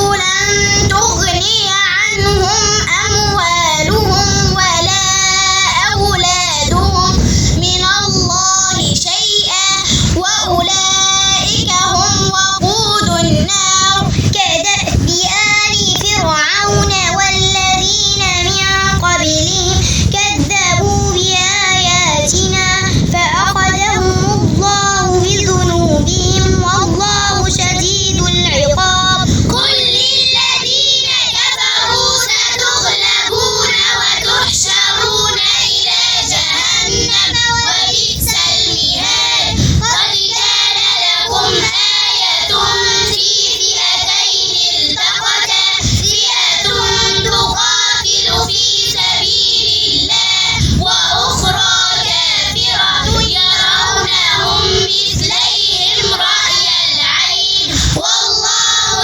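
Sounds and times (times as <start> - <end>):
girls chanting recitation: 0.0 - 59.0.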